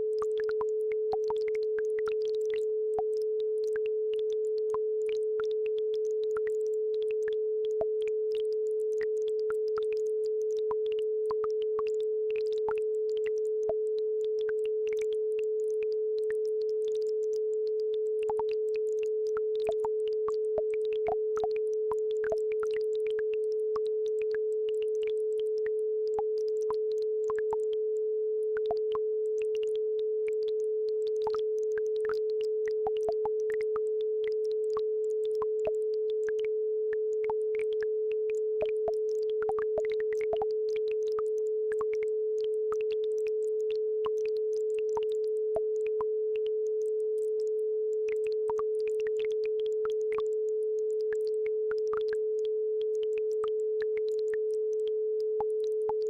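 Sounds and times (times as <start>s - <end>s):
steady sine tone: 0.0s - 56.0s.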